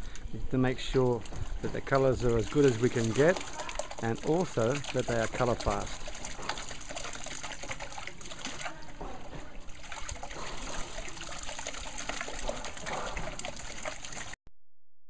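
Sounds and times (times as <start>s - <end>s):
liquid splashing and dripping: 0.0s - 14.4s.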